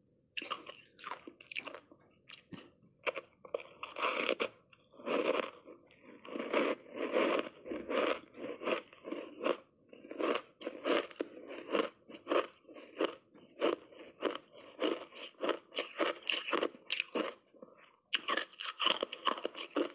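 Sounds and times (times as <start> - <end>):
ice crunching while chewed: 0.4 - 19.9.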